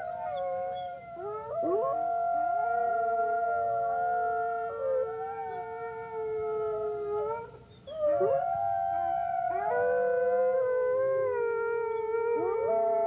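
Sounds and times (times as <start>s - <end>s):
wolves howling: 0.0s - 13.0s.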